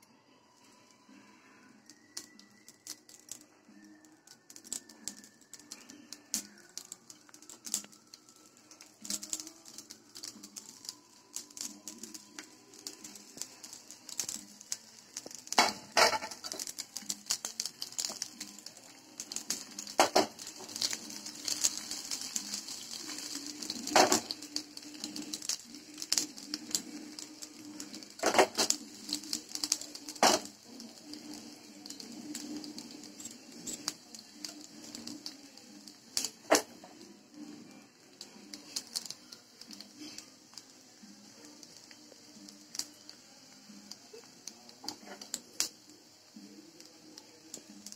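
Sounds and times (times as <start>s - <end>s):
cutlets sizzling in a pan: 0.3s - 47.9s.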